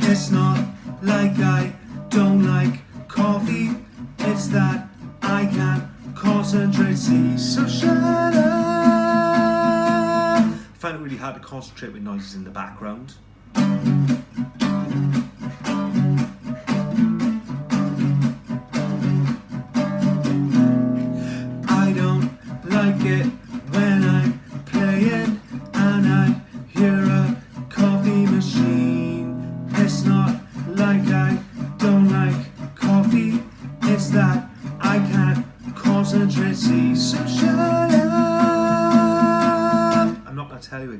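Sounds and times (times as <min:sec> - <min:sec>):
acoustic guitar strumming: 0:00.0 - 0:10.8, 0:13.4 - 0:40.3.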